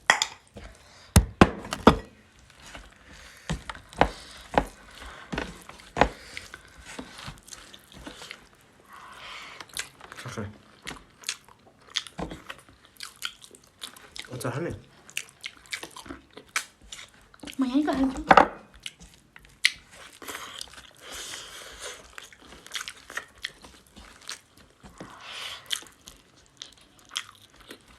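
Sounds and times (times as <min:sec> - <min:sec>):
chewing and biting food: 0:02.3 - 0:27.9.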